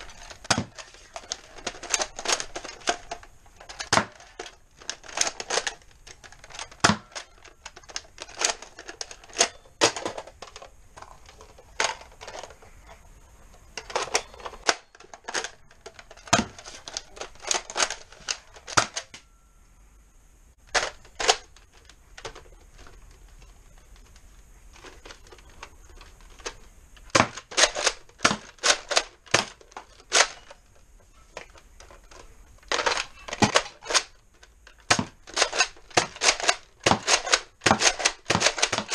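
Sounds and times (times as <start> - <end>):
plastic toy blasters clicking: 0.0 - 12.7, 13.8 - 19.2, 20.7 - 23.0, 23.9 - 38.9.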